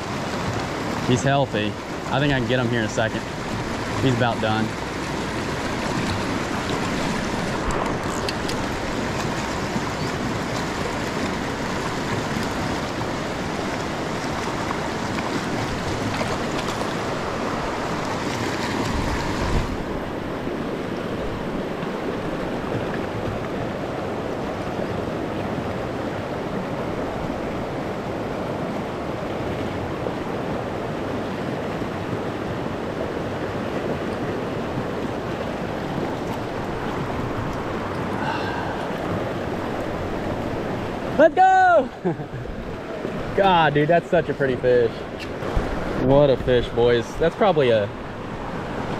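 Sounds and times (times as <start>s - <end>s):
river rushing through riffle: 0.0s - 48.9s.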